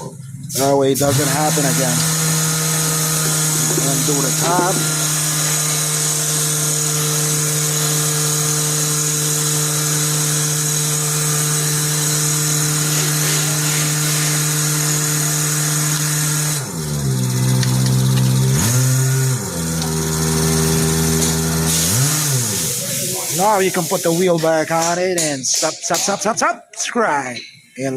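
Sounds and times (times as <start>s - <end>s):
power grinder whining: 0.0s - 23.5s.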